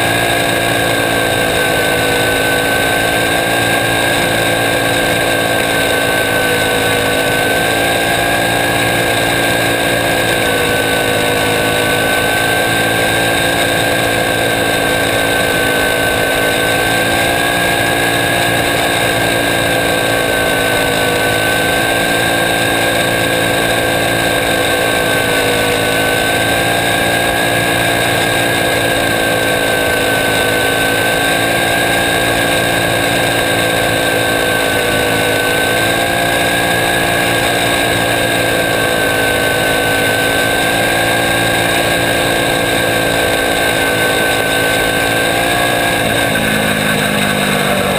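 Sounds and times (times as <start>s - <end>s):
racing car engine drone: 0.0s - 47.9s.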